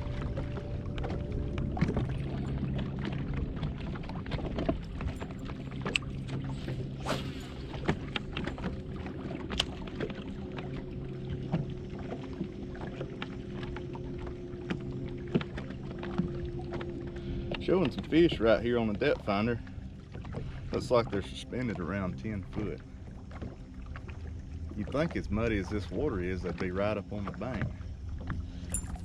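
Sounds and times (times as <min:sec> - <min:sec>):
boat motor hum: 0:00.0 - 0:29.0.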